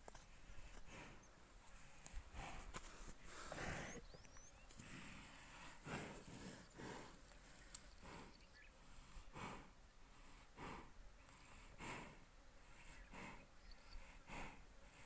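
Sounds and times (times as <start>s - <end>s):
soft slow breathing: 0.1s - 15.0s.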